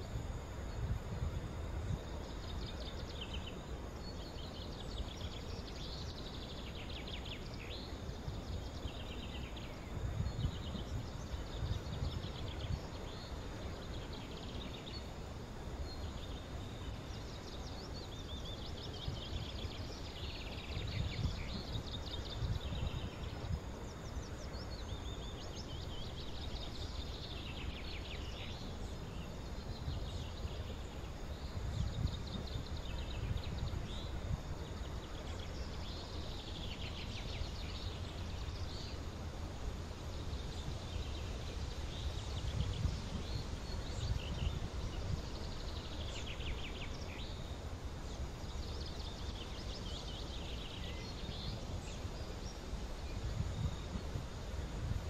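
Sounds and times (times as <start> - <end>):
outdoor hiss: 0.0 - 55.0
wind rumble on microphone: 0.0 - 55.0.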